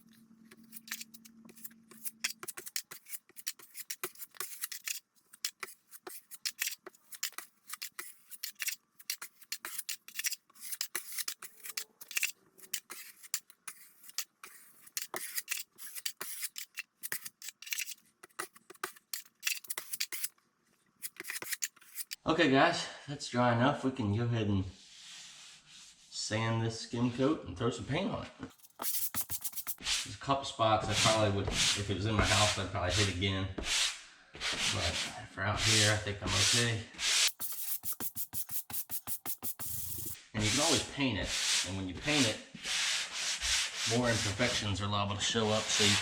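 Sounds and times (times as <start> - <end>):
drywall knife scraping: 0.0 - 20.4, 21.0 - 22.2, 28.5 - 30.1, 30.9 - 44.7, 45.4 - 46.0.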